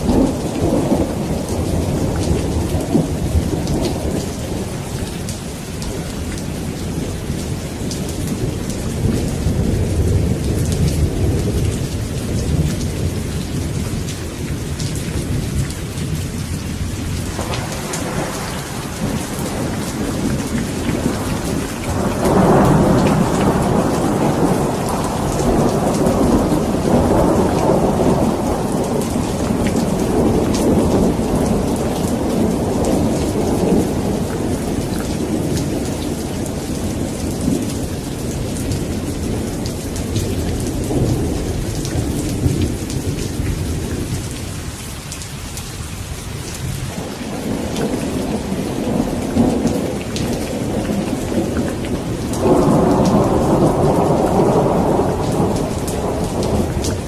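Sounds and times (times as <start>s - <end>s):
rolling thunder: 0.0s - 44.6s, 46.4s - 57.0s
heavy rain falling: 0.0s - 57.0s.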